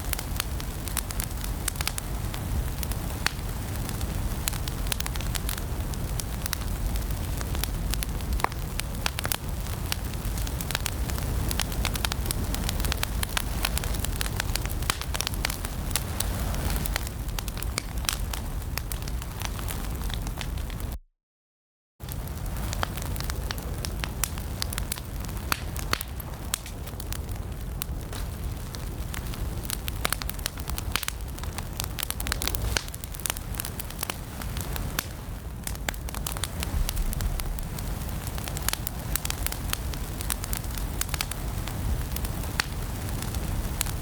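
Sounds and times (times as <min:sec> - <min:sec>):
fire crackling and popping: 0:00.0 - 0:21.0, 0:22.0 - 0:44.0
low rumble of flames: 0:00.0 - 0:21.0, 0:22.0 - 0:44.0.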